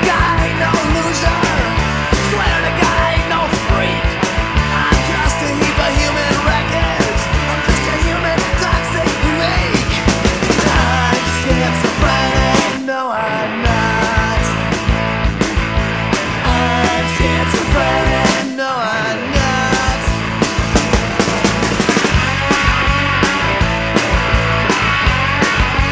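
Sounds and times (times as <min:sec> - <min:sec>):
rock music: 0:00.0 - 0:25.9.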